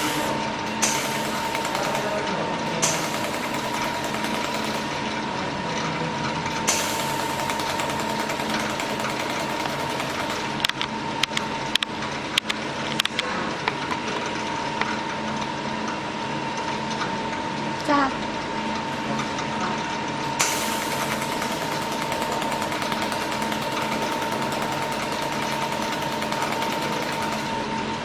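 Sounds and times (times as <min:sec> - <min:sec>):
machine hum and high whine: 0:00.0 - 0:28.0.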